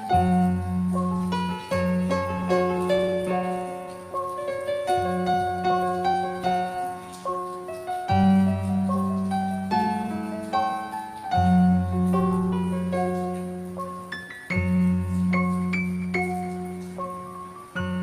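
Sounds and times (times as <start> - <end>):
piano notes: 0.0 - 18.0.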